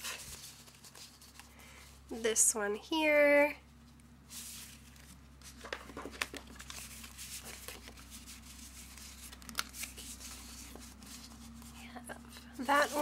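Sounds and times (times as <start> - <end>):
paper envelopes rustling: 0.0 - 2.1, 4.3 - 13.0.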